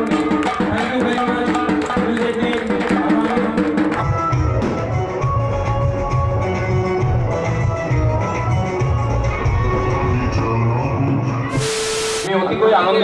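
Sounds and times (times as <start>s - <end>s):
drum-heavy song: 0.0s - 9.7s, 11.5s - 12.3s.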